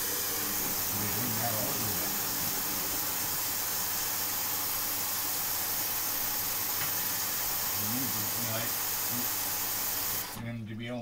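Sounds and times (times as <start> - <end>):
steady hiss: 0.0 - 10.3.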